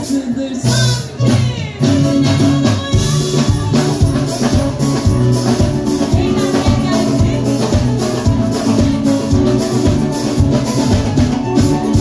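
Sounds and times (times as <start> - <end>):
woman singing into a microphone: 0.0 - 10.5
drum kit beat: 0.0 - 12.0.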